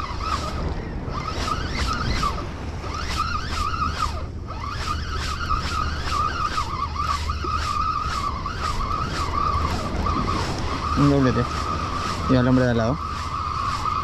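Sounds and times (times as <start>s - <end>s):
fishing reel squeaky whine: 0.0s - 14.0s
surf: 0.0s - 14.0s
wind: 0.0s - 14.0s.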